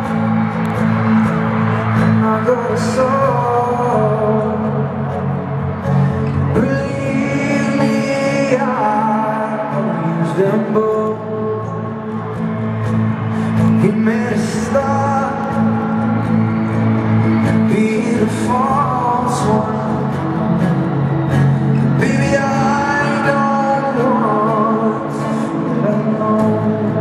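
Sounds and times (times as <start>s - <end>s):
man singing slow song: 2.0s - 12.5s, 13.2s - 16.4s, 17.3s - 27.0s.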